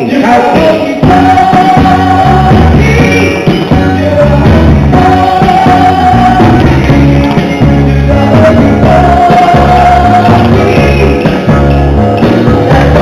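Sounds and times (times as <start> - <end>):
dance music with singing: 0.0 - 13.0.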